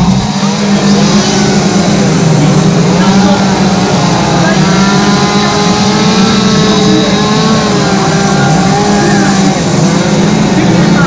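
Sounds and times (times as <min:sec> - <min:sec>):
chainsaw engine buzzing: 0:00.0 - 0:11.0.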